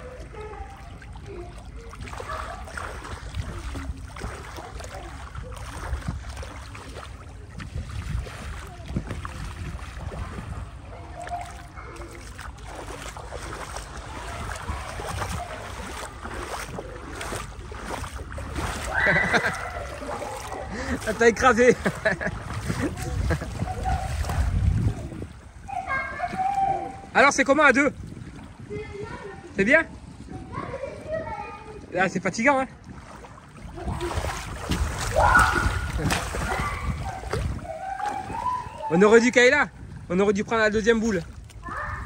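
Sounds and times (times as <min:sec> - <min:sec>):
water splashing and sloshing: 0:00.0 - 0:42.0
wind rumble on microphone: 0:00.0 - 0:42.0.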